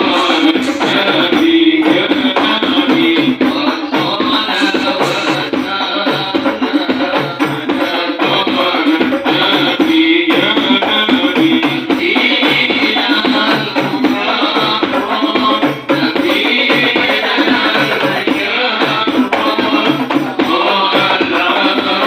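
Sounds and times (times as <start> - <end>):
frame drums beating fast rhythm: 0.0 - 22.0
other percussion: 0.0 - 22.0.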